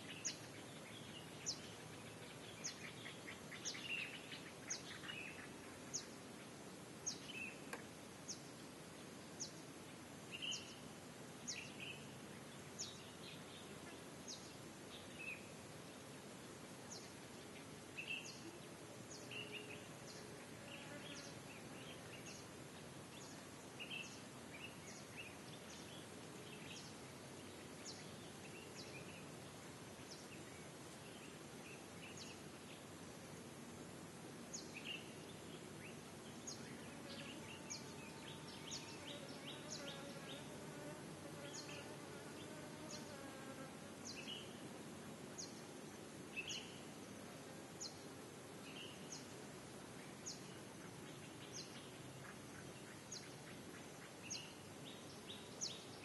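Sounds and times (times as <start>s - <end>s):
small birds chirping: 0.0s - 8.6s, 9.3s - 16.1s, 16.8s - 33.5s, 34.5s - 44.6s, 45.3s - 47.2s, 47.8s - 56.0s
faint background hiss: 0.0s - 56.0s.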